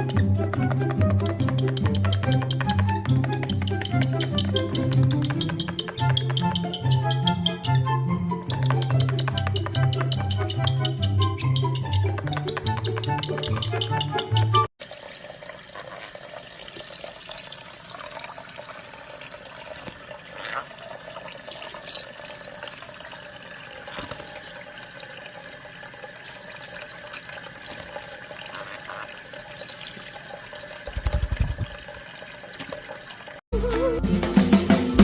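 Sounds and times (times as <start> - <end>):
running water: 0.0 - 7.8, 8.5 - 33.4.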